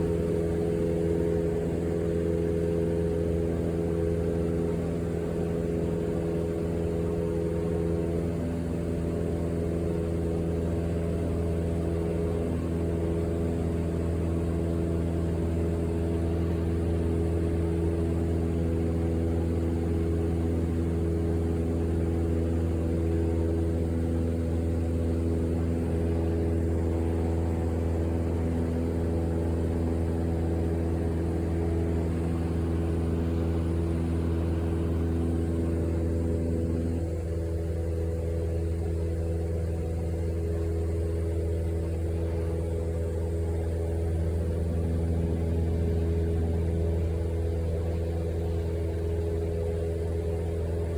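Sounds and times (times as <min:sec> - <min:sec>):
vehicle engine drone: 0:00.0 - 0:50.9.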